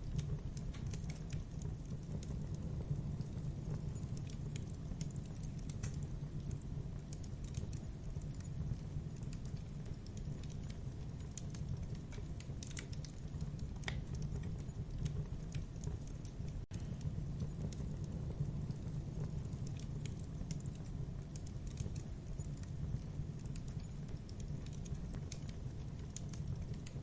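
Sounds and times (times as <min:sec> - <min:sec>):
burning wood crackling and popping: 0:00.0 - 0:27.0
campfire flames rumbling: 0:00.0 - 0:27.0.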